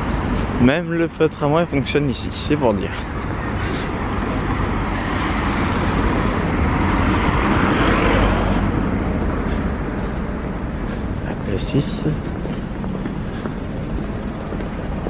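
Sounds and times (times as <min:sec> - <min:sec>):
car passing by: 0:02.8 - 0:15.0.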